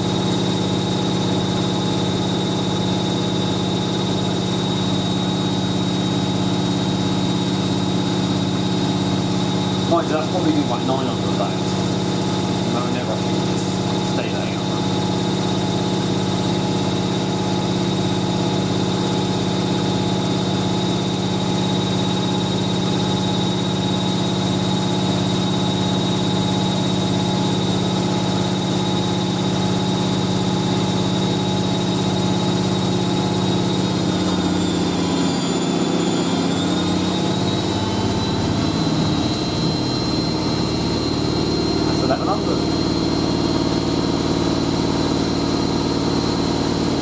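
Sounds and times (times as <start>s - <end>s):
high motor whine: 0.0s - 47.0s
washing machine spinning: 0.0s - 47.0s.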